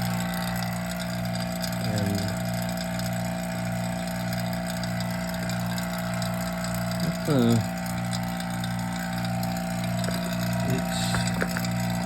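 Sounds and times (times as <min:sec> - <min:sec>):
vacuum pump humming: 0:00.0 - 0:12.0.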